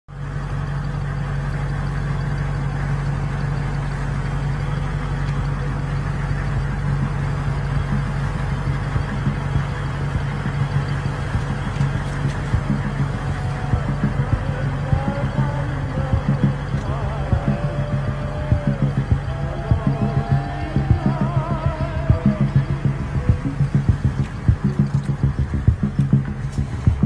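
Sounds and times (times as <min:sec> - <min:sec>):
car engine hum: 0:00.1 - 0:27.0
road noise: 0:00.1 - 0:27.0.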